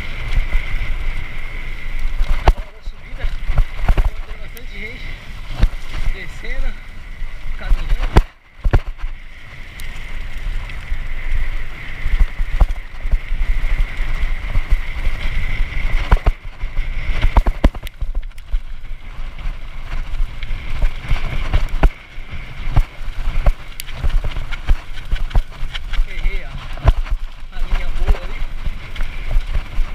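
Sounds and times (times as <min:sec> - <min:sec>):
bike knocking and rattling: 0:00.0 - 0:29.9
wind and tyre rumble: 0:00.0 - 0:29.9.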